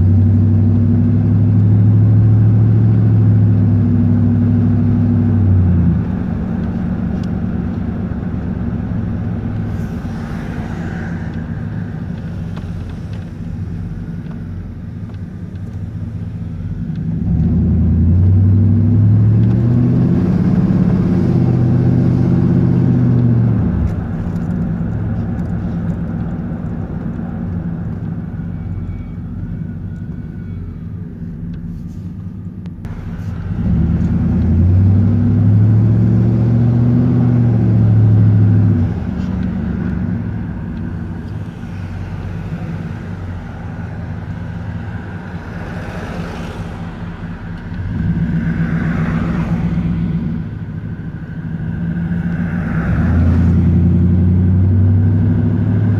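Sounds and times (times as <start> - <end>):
truck exhaust drone: 0.0 - 55.9.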